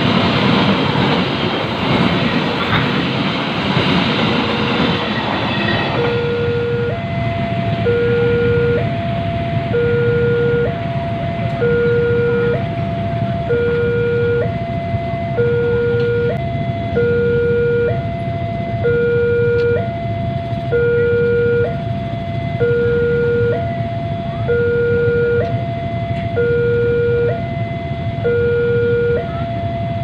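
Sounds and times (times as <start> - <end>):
low traffic rumble: 0.0 - 30.0
electronic two-tone alarm: 5.9 - 30.0.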